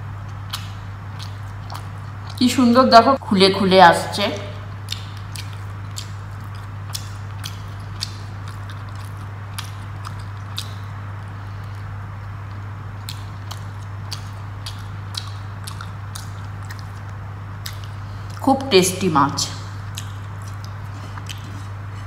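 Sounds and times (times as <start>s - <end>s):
steady low hum: 0.0s - 22.0s
wet chewing mouth clicks: 0.2s - 2.4s, 4.8s - 18.4s, 19.6s - 22.0s.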